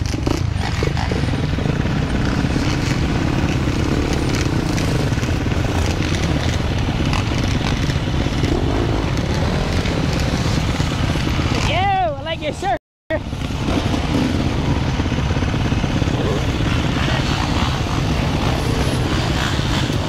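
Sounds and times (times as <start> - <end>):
crackling exhaust: 0.0 - 12.4, 13.2 - 20.0
many engines running: 0.0 - 20.0.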